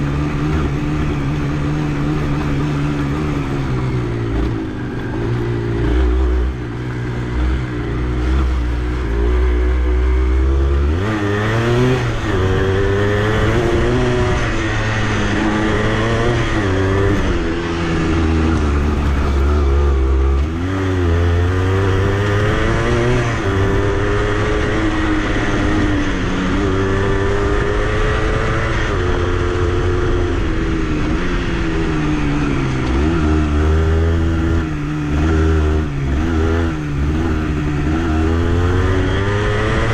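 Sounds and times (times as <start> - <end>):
motorcycle two-stroke engine revving: 0.0 - 39.9.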